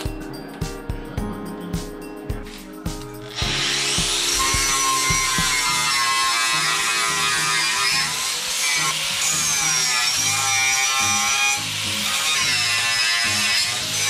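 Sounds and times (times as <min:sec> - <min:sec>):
background music: 0:00.0 - 0:14.0
angle grinder grinding steel: 0:02.5 - 0:14.0.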